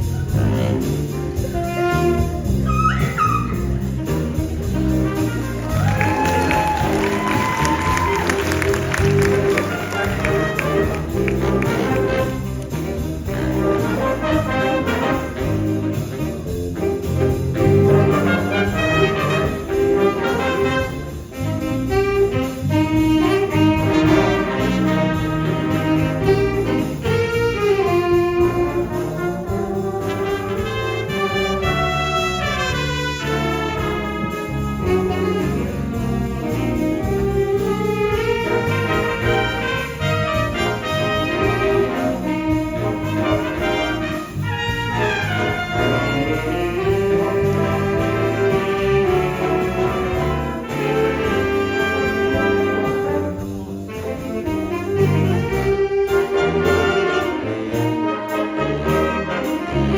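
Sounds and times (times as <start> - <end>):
jazz big band playing: 0.0 - 59.9.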